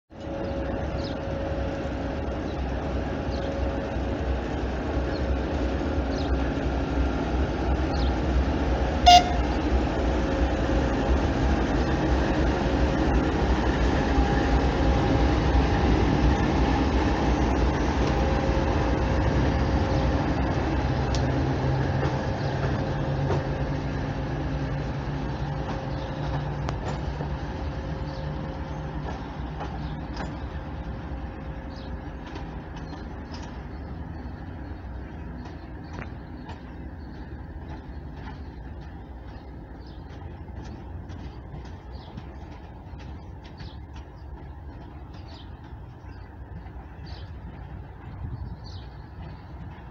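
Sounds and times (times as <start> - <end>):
diesel locomotive passing: 0.1 - 49.9.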